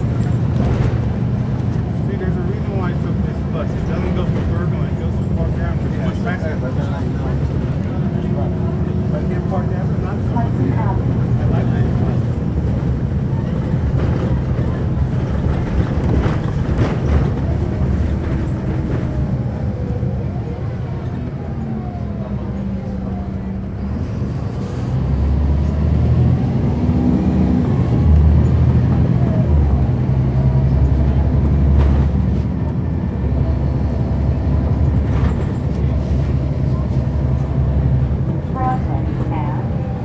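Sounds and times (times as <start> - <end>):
bus diesel engine: 0.0 - 40.0.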